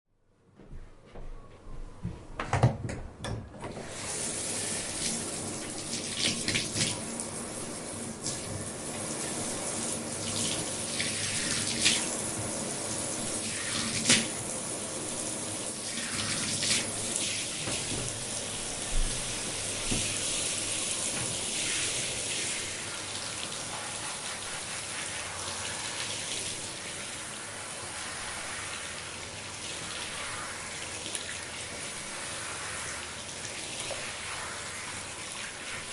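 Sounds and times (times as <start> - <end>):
shower water spraying: 3.7 - 35.9
water splashing on hair: 3.8 - 35.9.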